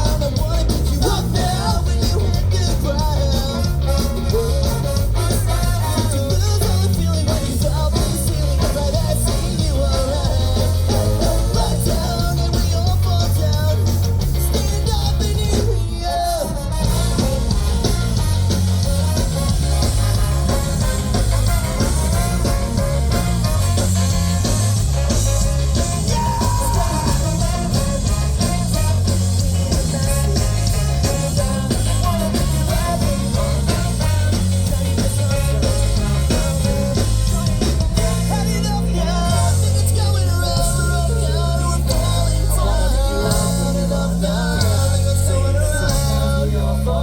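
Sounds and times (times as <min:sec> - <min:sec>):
live pop-punk band: 0:00.0 - 0:47.0
person singing: 0:00.0 - 0:47.0.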